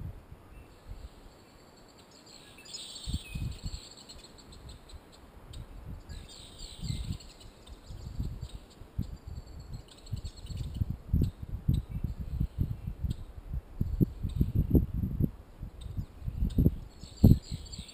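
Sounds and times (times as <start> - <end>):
songbird singing: 0.4 - 14.8, 15.6 - 17.9.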